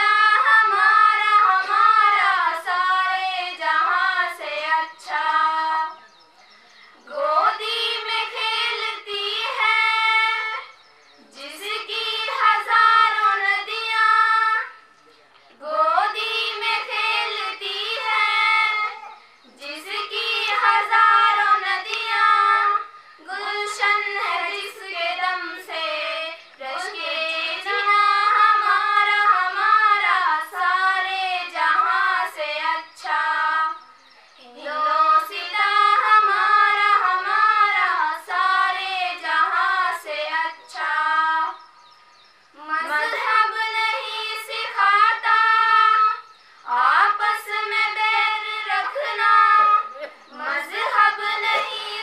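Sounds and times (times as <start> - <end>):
girls singing together: 0.0 - 6.2, 7.0 - 52.0.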